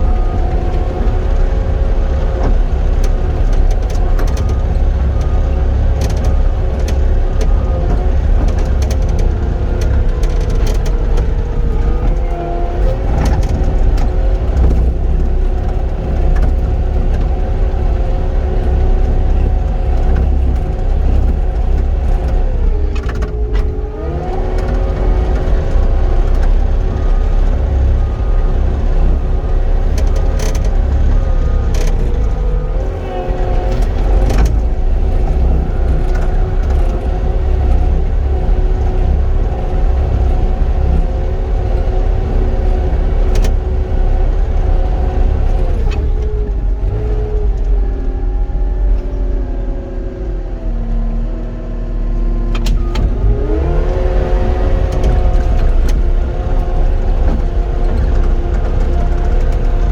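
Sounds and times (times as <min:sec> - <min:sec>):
track loader diesel engine: 0:00.0 - 0:59.9.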